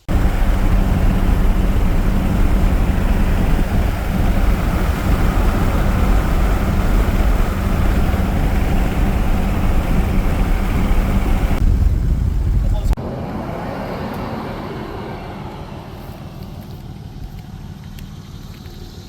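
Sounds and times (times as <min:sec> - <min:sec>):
rushing noise: 0:00.0 - 0:16.3
low rumble: 0:00.0 - 0:19.0.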